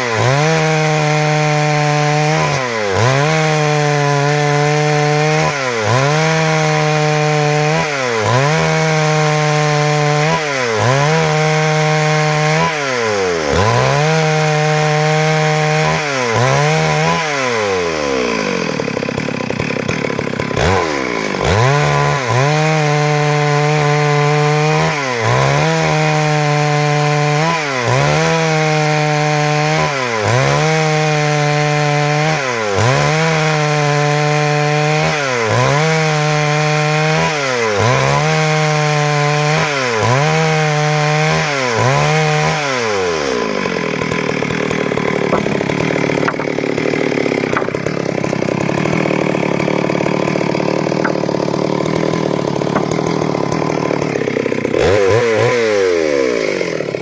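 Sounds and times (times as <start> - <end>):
chainsaw running at high revs: 0.0 - 57.0.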